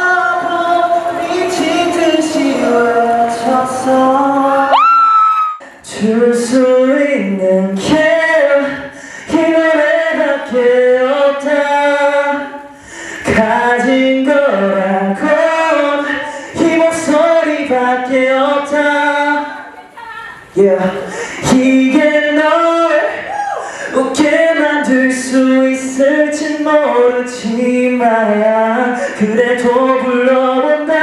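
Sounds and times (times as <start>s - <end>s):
man singing into a microphone: 0.0s - 19.7s, 20.4s - 31.0s.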